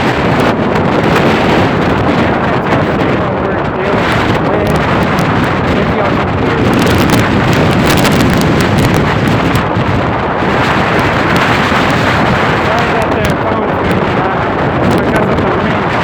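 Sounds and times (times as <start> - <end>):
strong wind roaring on microphone: 0.0 - 16.0
crackling pops: 1.0 - 16.0.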